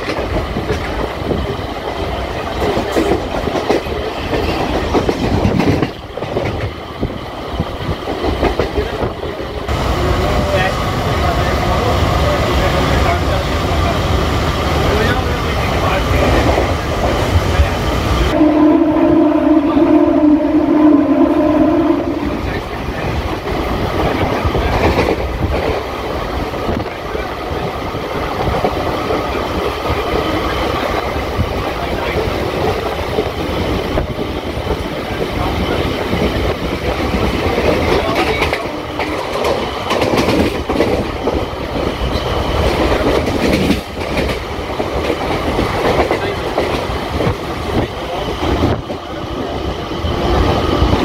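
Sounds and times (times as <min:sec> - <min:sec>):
electric train rumble: 0:00.0 - 0:51.0.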